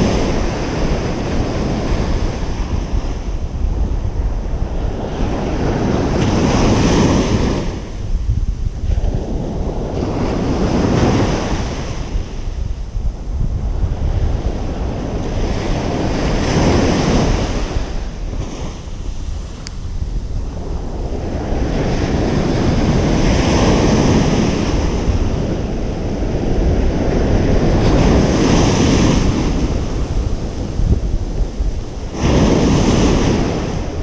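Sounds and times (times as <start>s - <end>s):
ocean surf breaking on beach: 0.0s - 34.0s
wind rumble on microphone: 0.0s - 34.0s.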